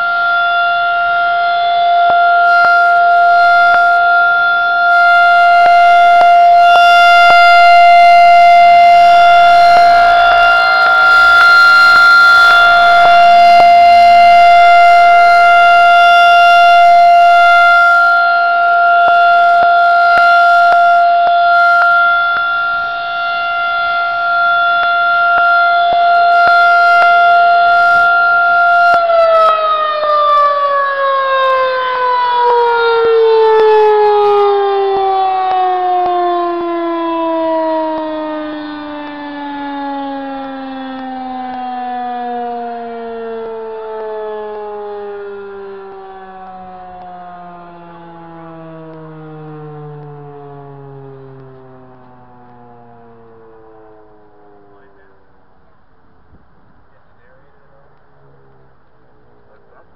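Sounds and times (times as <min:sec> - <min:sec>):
rotating tornado siren: 0:00.0 - 0:59.9.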